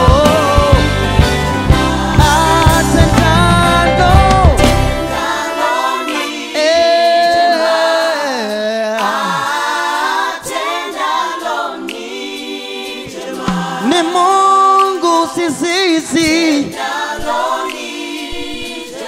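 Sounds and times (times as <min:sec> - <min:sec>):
choir singing unaccompanied: 0:00.0 - 0:19.0.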